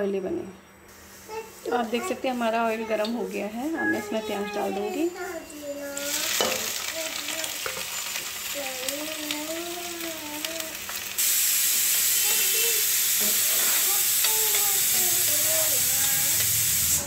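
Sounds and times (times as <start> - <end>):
onions sizzling in hot oil: 0.9 - 17.0.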